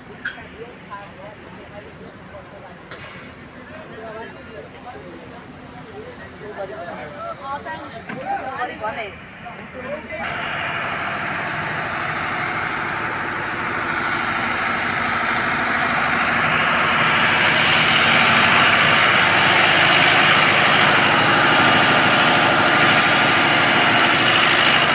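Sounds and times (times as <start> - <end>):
diesel train engine idling: 0.0 - 24.9.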